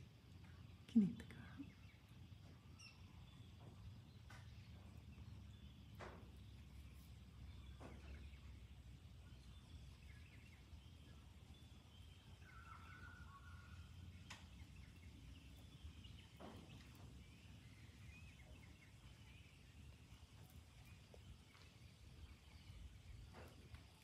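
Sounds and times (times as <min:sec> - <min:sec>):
faint bird calls: 0:00.4 - 0:24.0.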